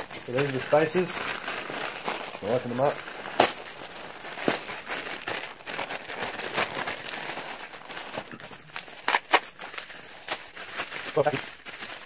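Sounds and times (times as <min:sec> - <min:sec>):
packaging wrap crinkling: 0:00.0 - 0:12.0.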